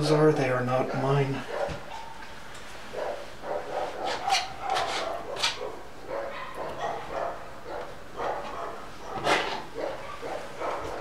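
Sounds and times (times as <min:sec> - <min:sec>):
dogs barking and yipping: 0:01.4 - 0:11.0.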